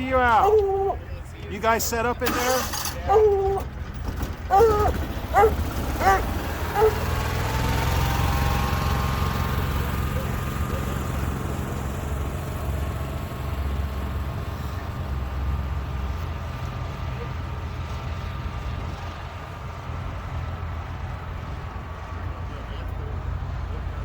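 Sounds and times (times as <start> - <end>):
faint engine whine: 0.0 - 24.0
vehicle engine rumbling: 0.0 - 24.0.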